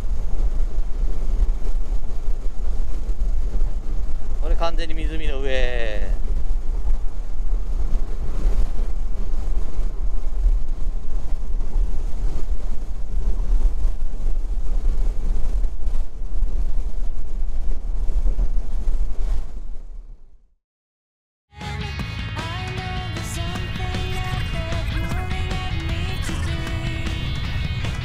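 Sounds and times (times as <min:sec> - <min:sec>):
wind buffeting microphone: 0:00.0 - 0:20.4, 0:23.2 - 0:28.0
wind rush and road noise: 0:00.0 - 0:20.4, 0:22.3 - 0:28.0.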